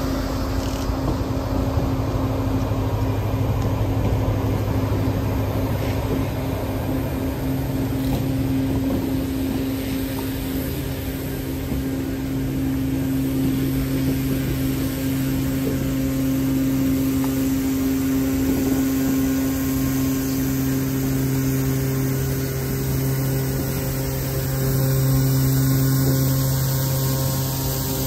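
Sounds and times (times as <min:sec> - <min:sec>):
locomotive engine droning: 0:00.0 - 0:28.0.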